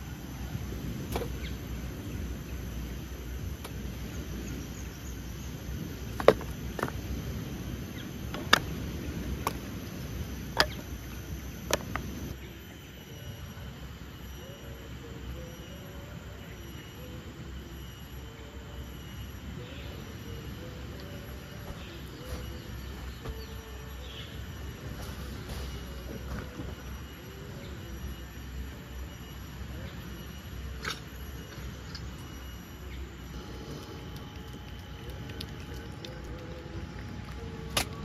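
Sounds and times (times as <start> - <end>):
faint thin steady tones: 0.0 - 38.0.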